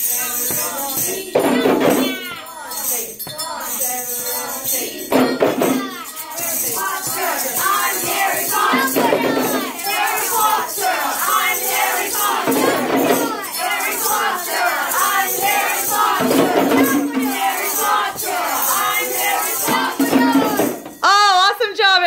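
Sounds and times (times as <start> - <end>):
hand drums: 0.0 - 3.5, 4.2 - 21.2
children chanting together: 0.0 - 21.0
tambourines: 0.0 - 21.2.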